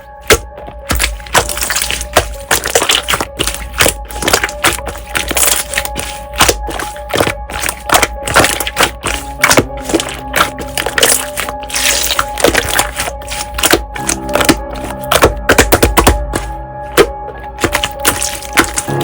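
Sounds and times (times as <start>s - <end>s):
faint background music: 0.0s - 19.0s
slime crackling and popping: 0.3s - 19.0s.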